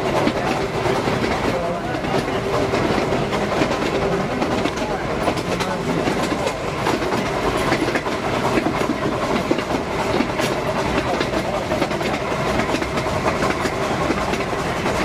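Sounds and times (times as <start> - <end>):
train wheels rumbling on rails: 0.0 - 15.0
wheels clicking and clattering: 0.0 - 15.0.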